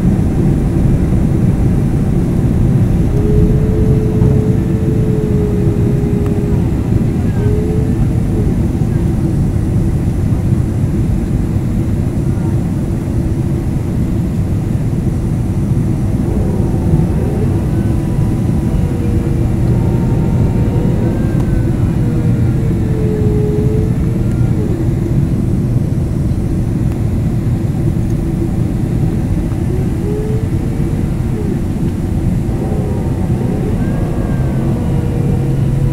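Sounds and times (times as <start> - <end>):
airliner cabin jet engine rush: 0.0 - 35.9.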